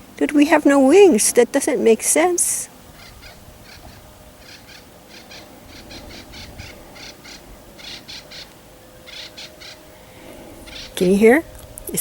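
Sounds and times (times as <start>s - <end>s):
bird calling harsh notes: 0.0s - 12.0s.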